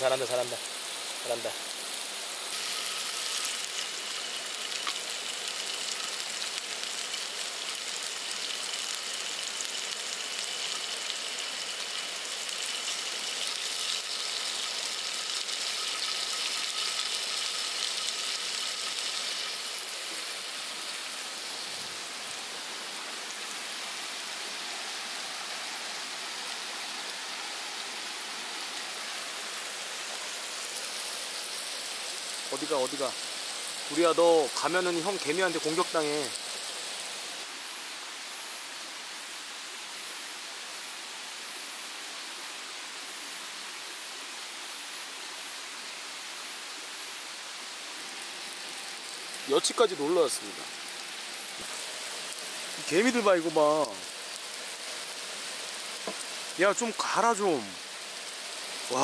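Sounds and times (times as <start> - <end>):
skewers sizzling on a grill: 0.0 - 37.5, 46.7 - 59.0.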